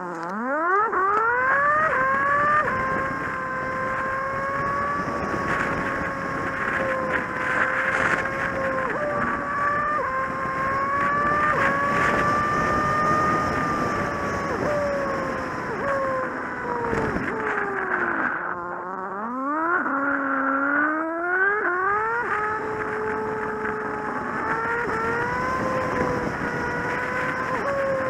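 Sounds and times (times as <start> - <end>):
motorcycle engine: 0.0 - 28.0
wind rushing over microphone: 0.8 - 18.6, 21.8 - 28.0.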